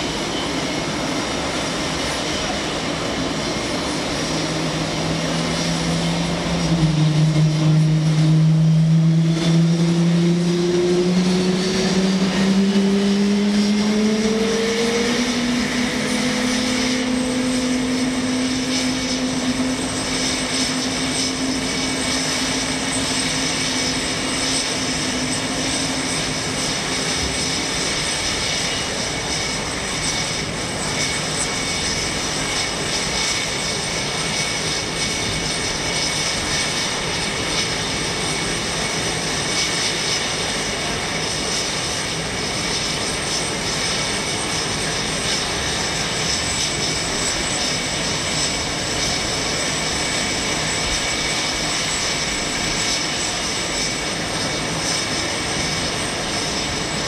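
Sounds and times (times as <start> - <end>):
jet engine spooling up whine: 0.0 - 57.0.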